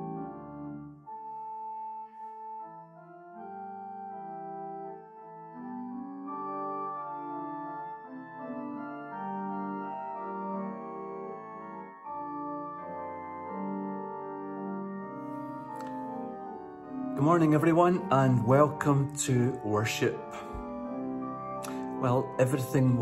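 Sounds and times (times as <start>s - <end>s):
organ playing sustained chords: 0.0s - 23.0s.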